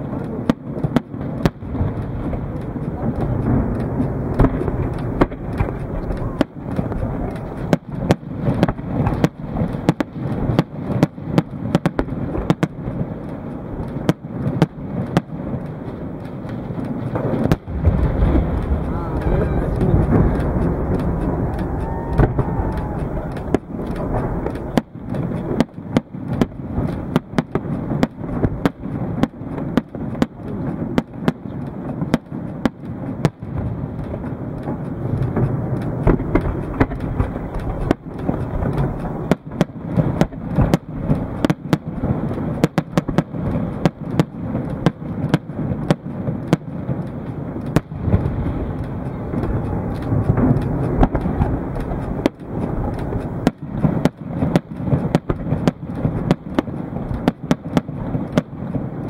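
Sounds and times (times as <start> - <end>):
fireworks booming: 0.0 - 59.0
sharp firework bangs: 0.0 - 59.0.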